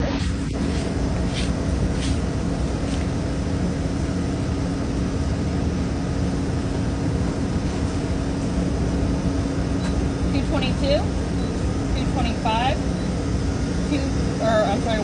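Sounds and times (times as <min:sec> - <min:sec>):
constant machinery hum: 0:00.0 - 0:15.0
machinery low rumble: 0:00.0 - 0:15.0.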